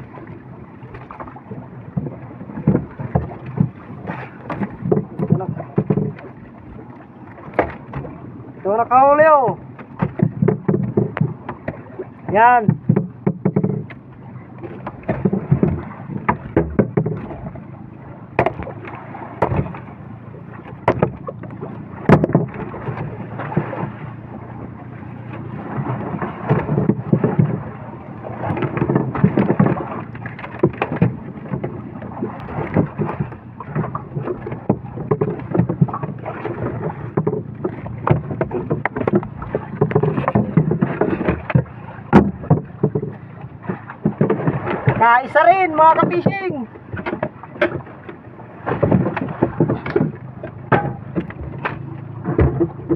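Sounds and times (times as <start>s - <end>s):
knocks and clatter in boat: 0.0s - 52.9s
wind and sea rumble: 0.0s - 52.9s.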